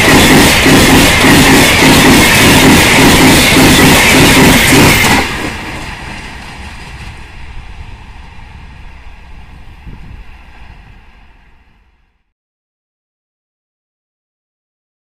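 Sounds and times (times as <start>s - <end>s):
train rushing past: 0.0s - 12.3s.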